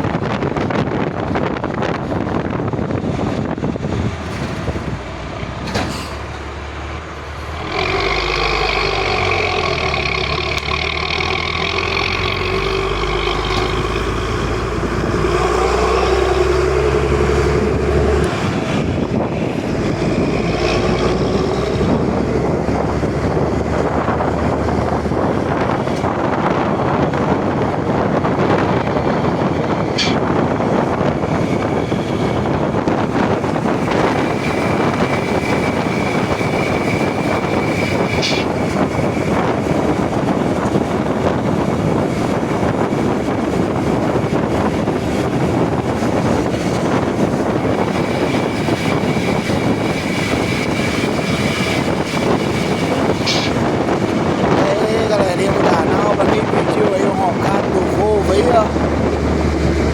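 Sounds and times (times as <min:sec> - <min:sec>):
diesel bus engine running: 0:00.0 - 0:59.9
engine whine: 0:00.0 - 0:59.9.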